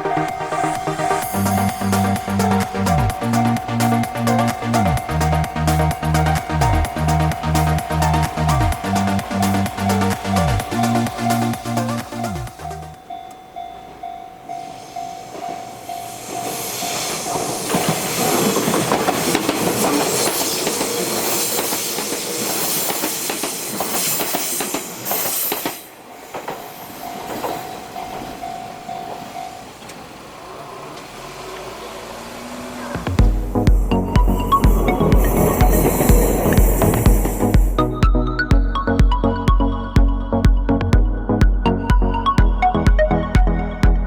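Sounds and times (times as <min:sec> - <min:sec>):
level crossing alarm ringing: 0:00.0 - 0:24.0, 0:26.4 - 0:30.3, 0:33.2 - 0:44.0
train wheel clatter: 0:00.0 - 0:31.7, 0:33.9 - 0:37.8.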